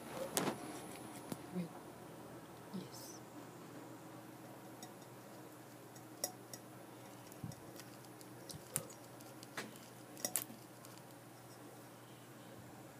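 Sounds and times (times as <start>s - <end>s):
room hum: 0.0s - 12.9s.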